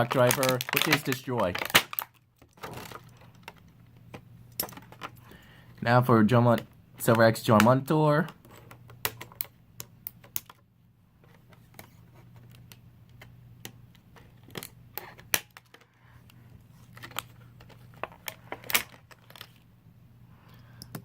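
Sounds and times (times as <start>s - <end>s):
plastic parts clicking and tapping: 0.0s - 5.2s, 6.6s - 10.6s, 11.2s - 19.6s
steady low hum: 1.5s - 21.0s.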